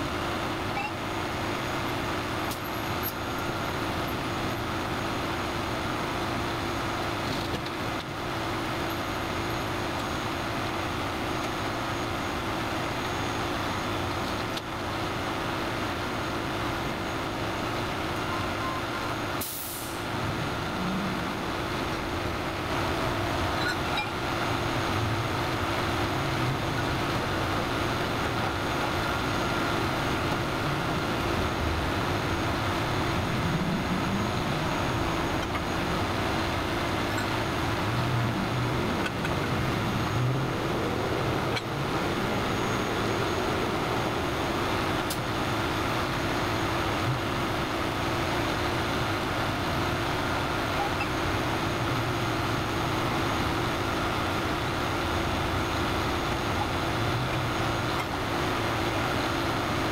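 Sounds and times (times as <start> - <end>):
freeway traffic passing: 0.0 - 59.9.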